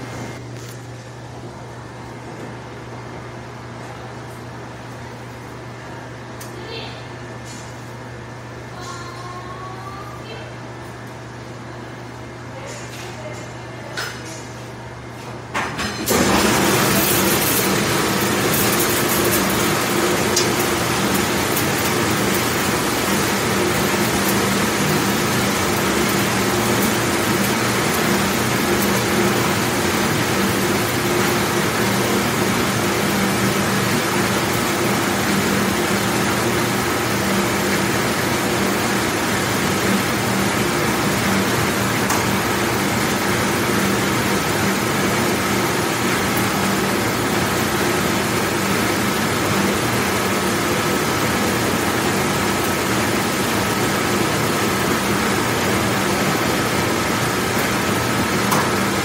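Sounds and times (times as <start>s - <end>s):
machine hum: 0.0s - 12.6s, 14.8s - 59.0s
dishwashing machine rushing: 0.0s - 59.0s.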